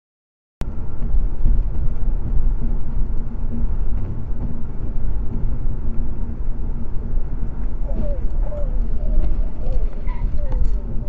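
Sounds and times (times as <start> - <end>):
road and engine rumble inside car: 0.6 - 11.0.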